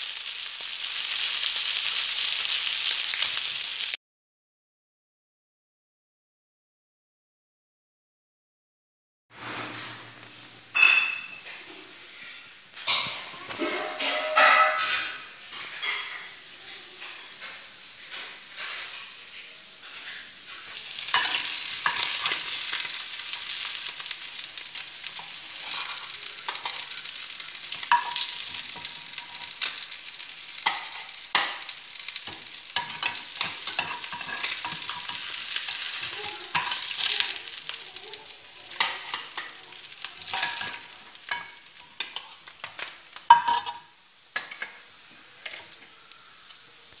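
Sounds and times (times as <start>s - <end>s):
food frying in hot oil: 0.0s - 4.0s, 12.9s - 47.0s.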